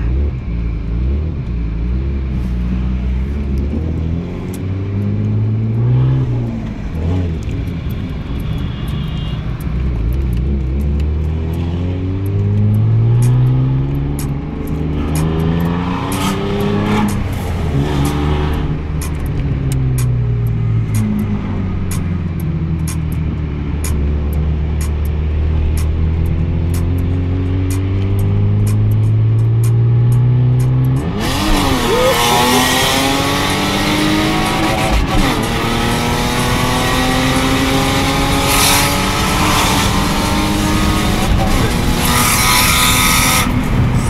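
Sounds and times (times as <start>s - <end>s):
car engine revving: 0.0s - 44.0s
low road rumble: 0.0s - 44.0s.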